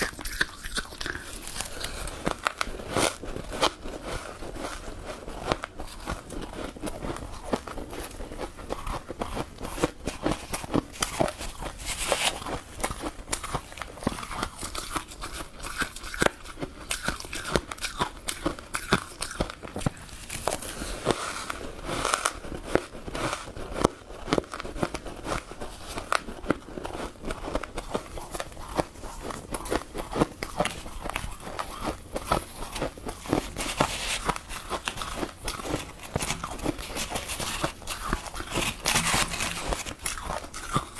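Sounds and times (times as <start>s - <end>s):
chewing crunchy frost: 0.0s - 40.9s.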